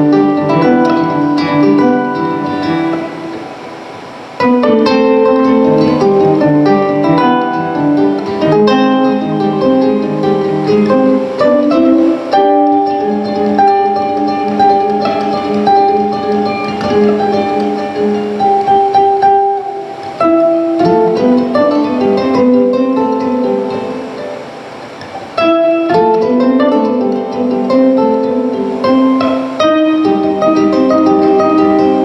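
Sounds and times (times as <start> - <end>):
plucked string instrument: 0.0 - 32.0.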